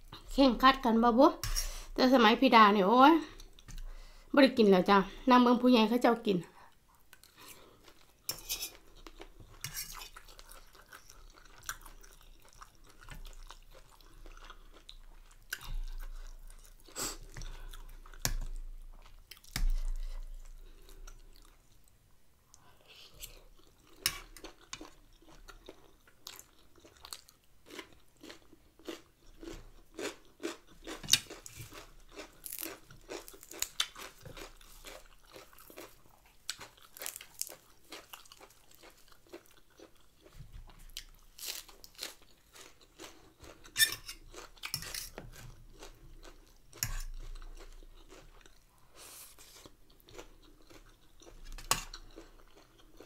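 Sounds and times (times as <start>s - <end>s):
person chewing and crunching food: 3.2s - 4.3s, 6.6s - 53.0s.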